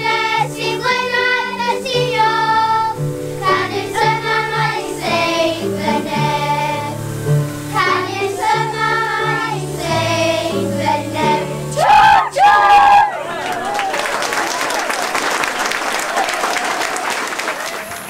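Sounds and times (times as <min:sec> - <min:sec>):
children's choir singing: 0:00.0 - 0:17.6.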